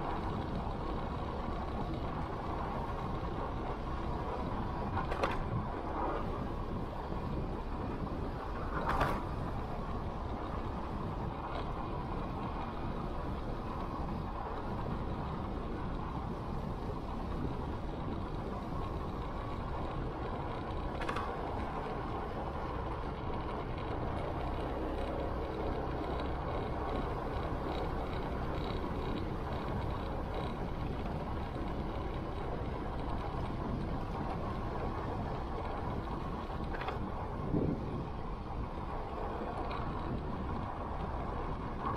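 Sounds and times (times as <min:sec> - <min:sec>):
motorcycle engine rumble: 0:00.0 - 0:41.9
tyre and wind noise: 0:00.0 - 0:41.9.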